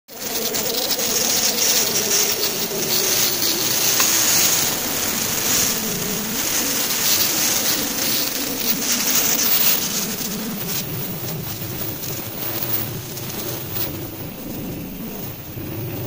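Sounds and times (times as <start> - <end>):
cutting torch hissing: 0.1 - 15.9
low wavering hum: 0.2 - 16.0.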